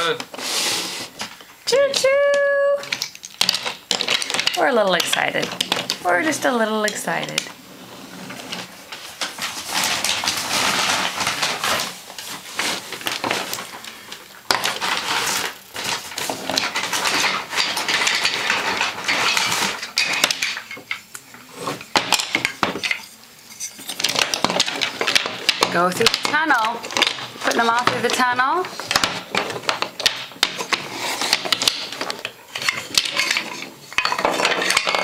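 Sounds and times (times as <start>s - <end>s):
toy trains clattering and clinking: 1.7s - 7.6s, 8.2s - 35.0s.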